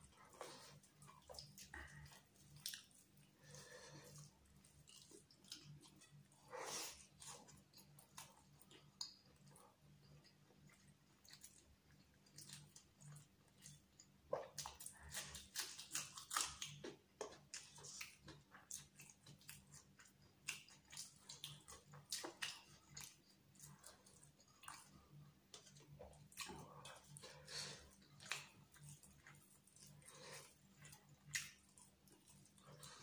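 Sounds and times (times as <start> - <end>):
person chewing and mouth smacking: 0.0 - 33.0.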